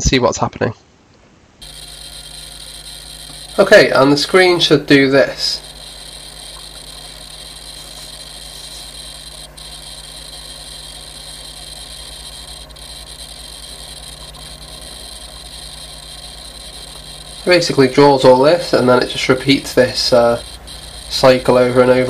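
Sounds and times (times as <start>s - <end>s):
background hum and hiss: 0.0s - 22.0s
faint high whine: 1.6s - 22.0s.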